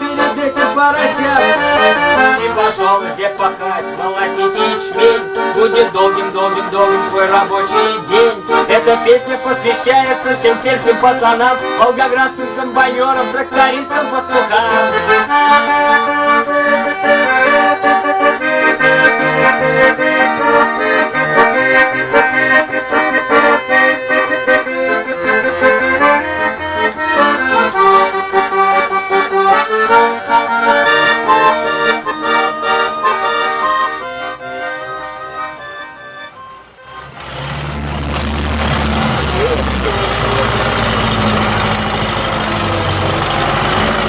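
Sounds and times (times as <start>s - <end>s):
instrumental music: 0.0s - 44.0s.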